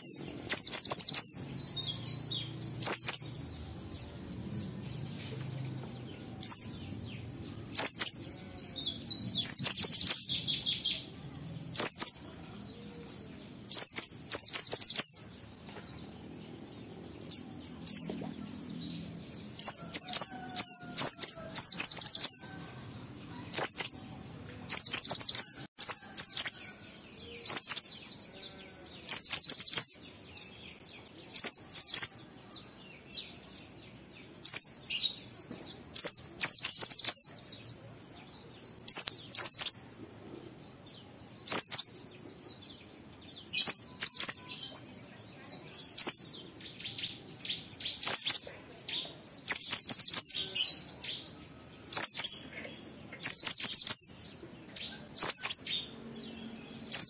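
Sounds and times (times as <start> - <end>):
bird chattering song: 0.0 - 40.0, 41.3 - 57.0.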